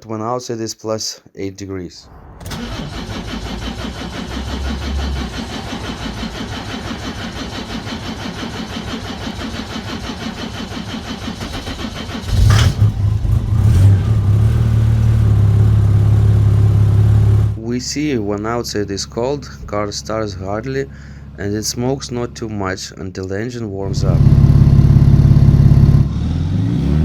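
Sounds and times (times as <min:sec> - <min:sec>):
diesel engine cranking and running: 0:02.2 - 0:22.4, 0:23.8 - 0:27.0.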